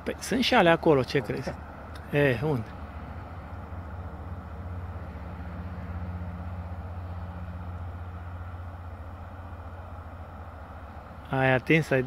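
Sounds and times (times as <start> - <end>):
distant motor vehicle rumble: 0.0 - 12.0.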